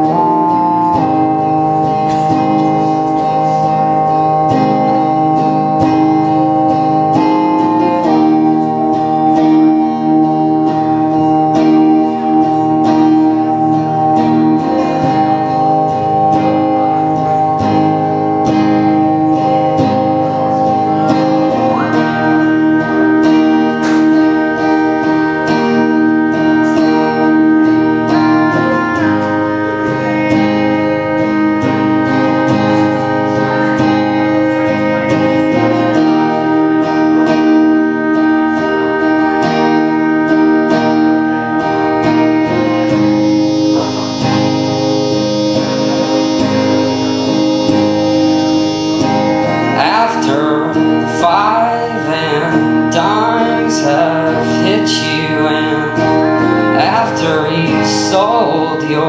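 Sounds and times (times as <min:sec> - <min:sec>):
man singing: 0:00.0 - 0:38.2, 0:49.1 - 0:59.0
acoustic guitar strumming: 0:00.0 - 0:59.0
sustained keyboard chords: 0:00.0 - 0:59.0.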